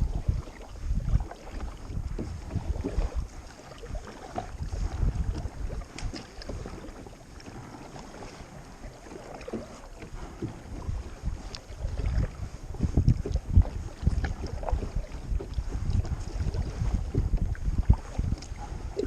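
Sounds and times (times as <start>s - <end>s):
water splashing around kayak: 0.0s - 19.0s
wind rumbling on microphone: 0.0s - 19.0s.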